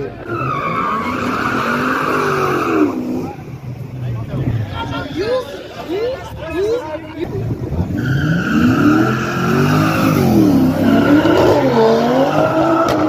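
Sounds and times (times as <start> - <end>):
race cars accelerating: 0.0 - 13.0.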